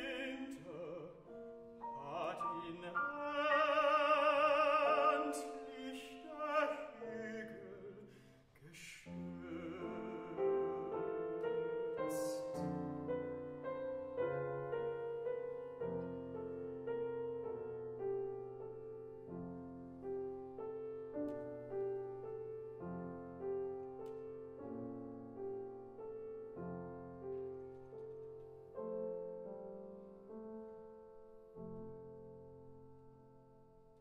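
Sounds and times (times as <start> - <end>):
grand piano slow soft chords: 0.0 - 34.0.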